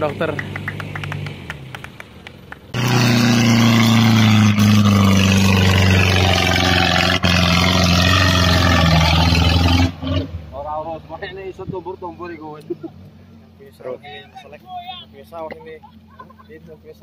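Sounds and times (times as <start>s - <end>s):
car engine labouring uphill: 0.0s - 17.0s.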